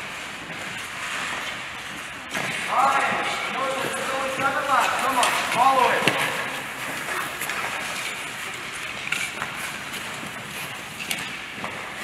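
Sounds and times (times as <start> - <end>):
skate blades scraping on ice: 0.0 - 12.0.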